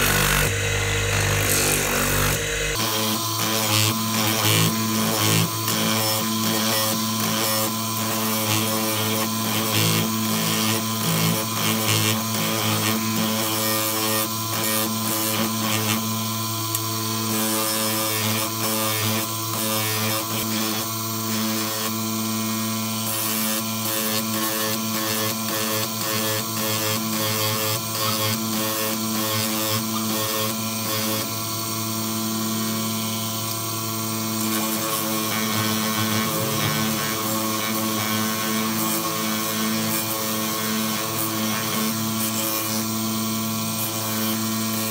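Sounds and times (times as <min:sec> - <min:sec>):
blade grinding hiss: 0:00.0 - 0:44.9
grinding wheel motor hum: 0:00.0 - 0:44.9.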